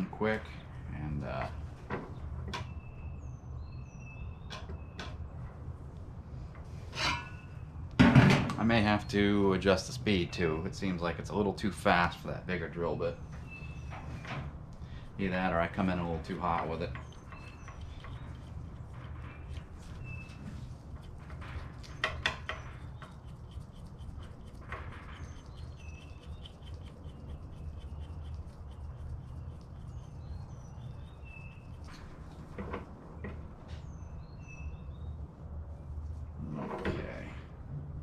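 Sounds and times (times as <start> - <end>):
birds chirping: 0.0 - 5.6, 8.6 - 36.0.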